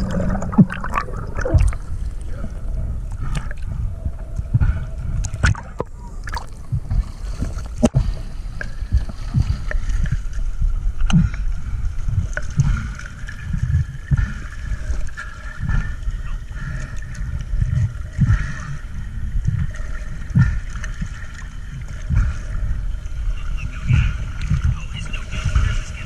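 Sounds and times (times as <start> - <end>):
water sloshing and gurgling: 0.0 - 26.0.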